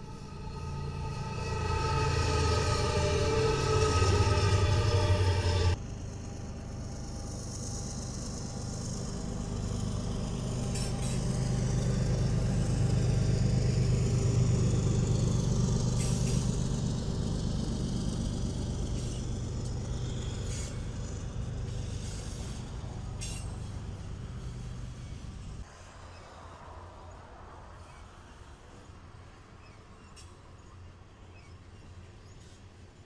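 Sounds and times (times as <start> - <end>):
diesel locomotives rolling past: 0.0 - 33.0.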